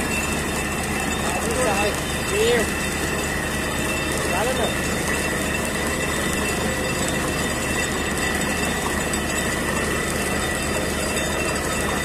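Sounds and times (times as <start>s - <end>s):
drilling rig running: 0.0s - 12.0s
water spraying from borehole: 0.0s - 12.0s.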